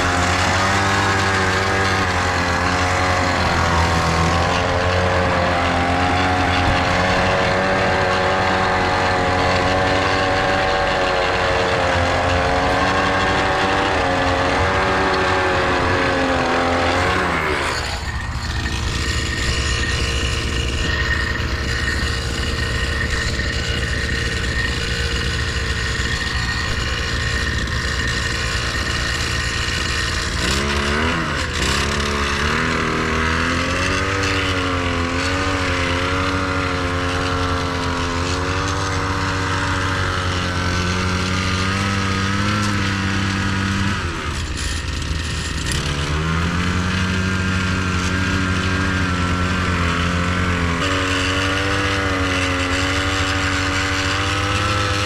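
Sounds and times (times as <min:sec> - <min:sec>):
small tiller engine running: 0:00.0 - 0:55.0.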